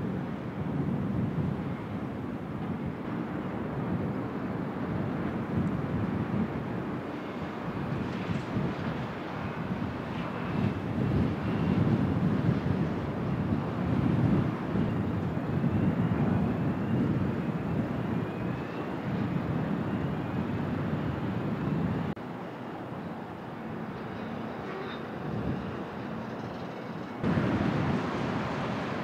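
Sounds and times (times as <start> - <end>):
low rumbling harbour noise: 0.0 - 29.0.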